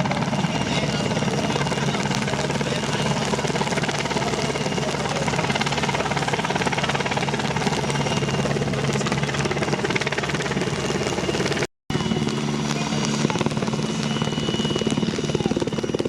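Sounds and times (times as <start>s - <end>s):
helicopter rotor chopping: 0.0s - 16.0s
turbine and rotor noise: 0.0s - 16.0s.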